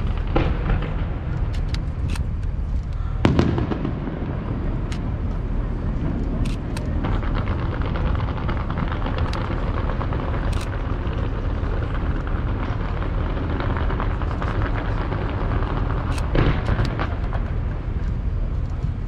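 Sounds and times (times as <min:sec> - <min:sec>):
fireworks bang: 0:00.0 - 0:02.1, 0:03.2 - 0:18.4
fireworks crackling: 0:00.0 - 0:19.0
low rumble: 0:00.0 - 0:19.0.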